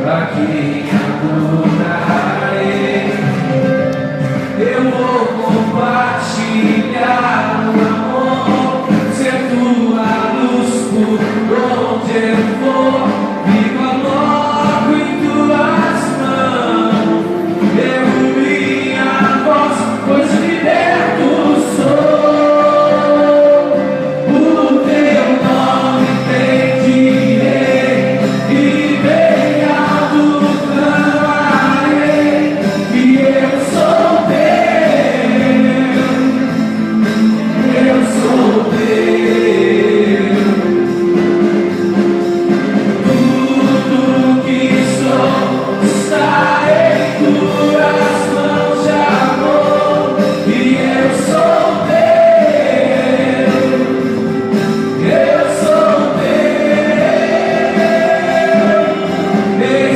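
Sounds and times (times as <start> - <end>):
band and group singing gospel: 0.0 - 59.9.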